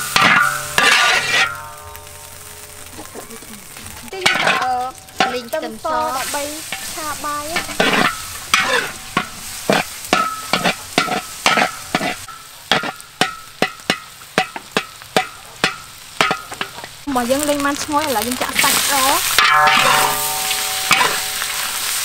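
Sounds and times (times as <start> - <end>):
metal spatula scraping a wok: 0.0 - 2.8, 3.6 - 17.1, 18.3 - 22.0
food sizzling in hot oil: 0.0 - 22.0.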